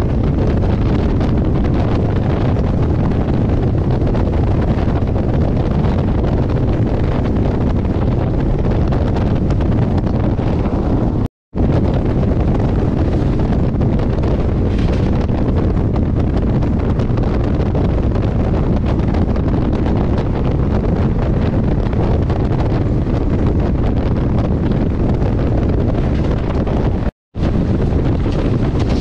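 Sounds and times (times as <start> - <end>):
train rumbling and rattling: 0.0 - 22.2, 22.8 - 29.0
wind buffeting microphone: 0.0 - 29.0.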